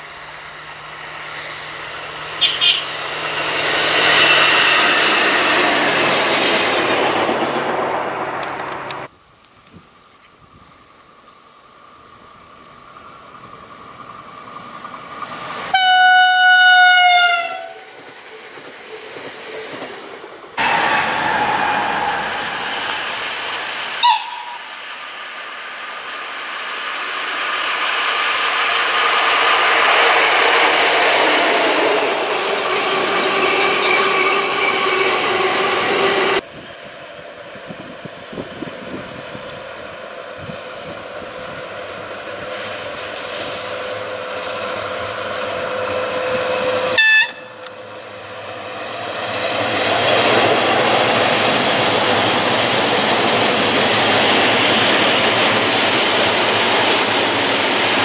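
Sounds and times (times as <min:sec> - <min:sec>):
train approaching: 0:00.0 - 0:09.4, 0:10.0 - 0:58.0
freight train passing with hum: 0:00.0 - 0:58.0.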